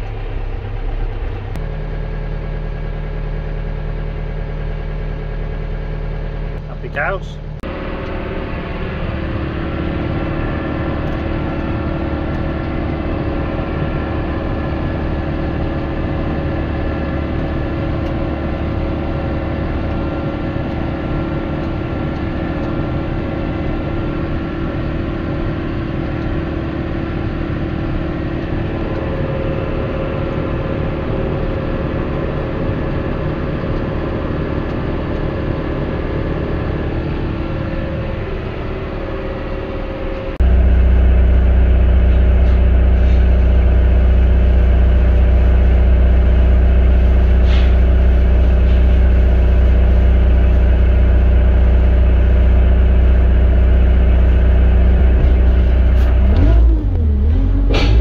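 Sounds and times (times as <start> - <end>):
steady hum and whine: 0.0 - 58.0
tractor engine running: 0.0 - 58.0.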